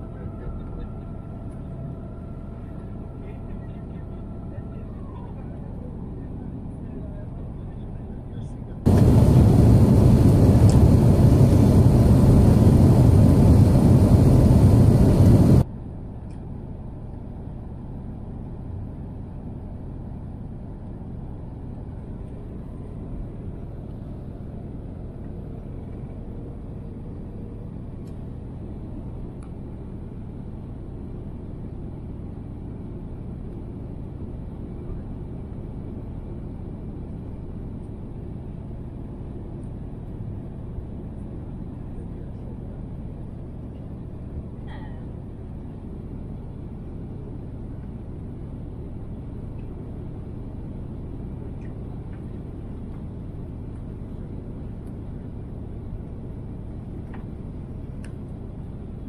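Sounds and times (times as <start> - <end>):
low rumble of engines and airflow: 0.0 - 59.0.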